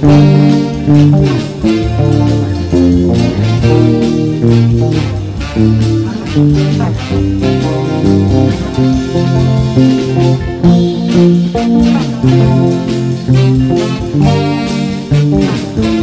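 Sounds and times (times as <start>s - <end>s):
backing track with bass line: 0.0s - 16.0s
electric guitar playing a tune: 0.0s - 16.0s.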